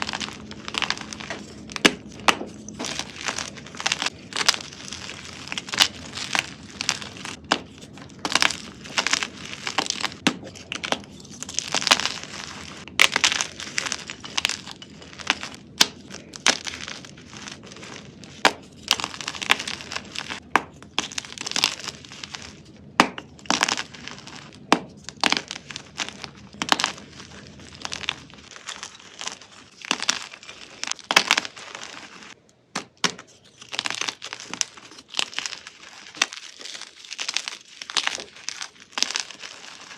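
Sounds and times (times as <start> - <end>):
brittle crunching and crackling: 0.0 - 39.9.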